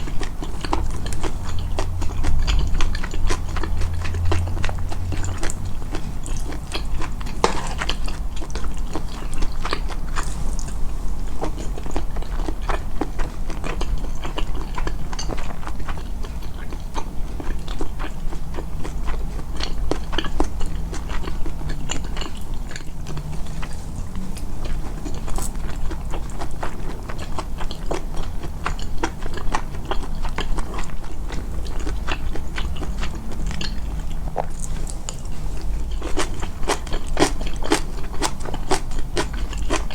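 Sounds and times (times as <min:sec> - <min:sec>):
close-miked chewing: 0:00.0 - 0:39.9
constant low rumble: 0:00.0 - 0:39.9.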